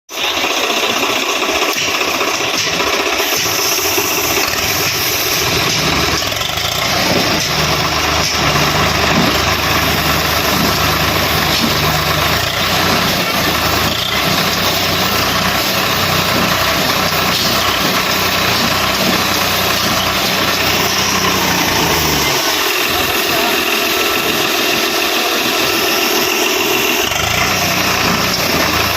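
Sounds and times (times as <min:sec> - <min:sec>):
tractor diesel engine idling: 0:00.1 - 0:28.9.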